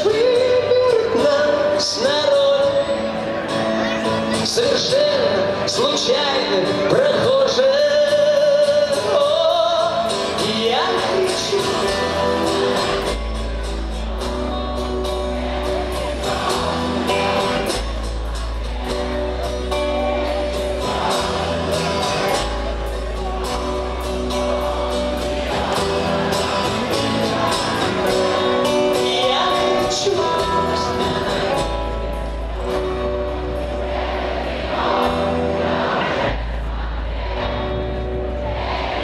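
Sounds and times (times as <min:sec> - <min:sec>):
person singing: 0:00.0 - 0:33.3
live rock band: 0:00.0 - 0:39.0.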